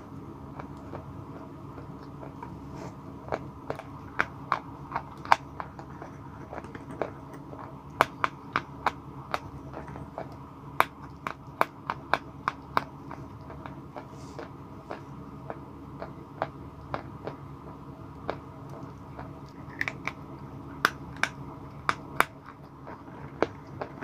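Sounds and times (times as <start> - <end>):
chalk being chewed: 0.5 - 24.0.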